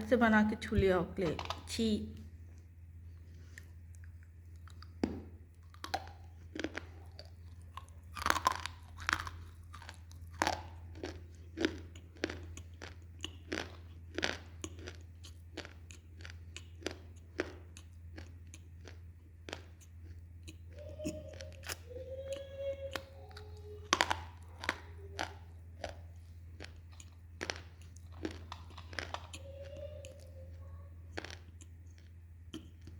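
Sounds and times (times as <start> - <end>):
steady low hum: 0.0 - 32.9
person crunching and chewing: 3.2 - 32.9.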